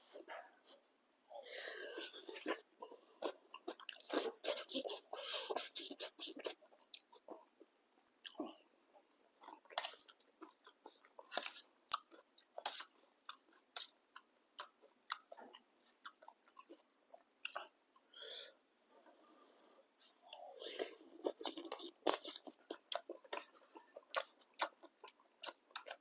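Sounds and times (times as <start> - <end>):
wet chewing and mouth sounds: 1.9 - 17.8, 20.1 - 26.0.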